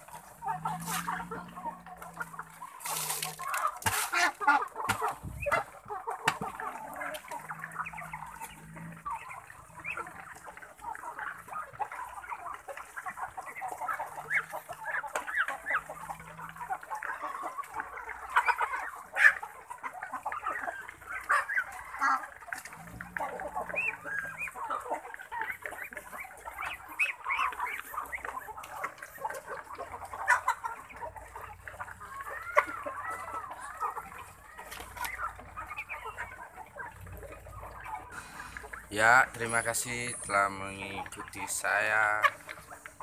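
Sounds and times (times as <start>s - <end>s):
chickens and ducks clucking: 0.0s - 43.0s.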